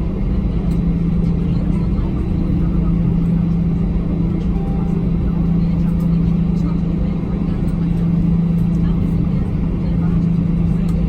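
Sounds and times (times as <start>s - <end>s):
airplane cabin rumble: 0.0s - 11.0s
engine hum: 0.0s - 11.0s.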